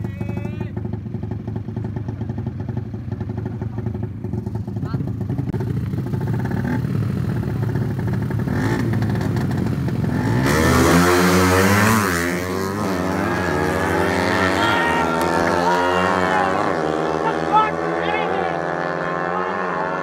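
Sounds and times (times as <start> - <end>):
racing motorcycle engines: 0.0 - 20.0.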